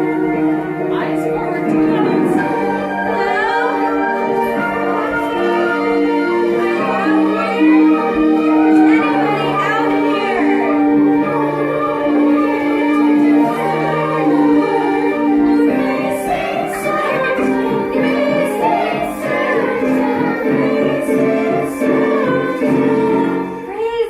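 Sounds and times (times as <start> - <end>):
group of young voices singing: 0.0 - 24.0
instrumental accompaniment: 0.0 - 24.0.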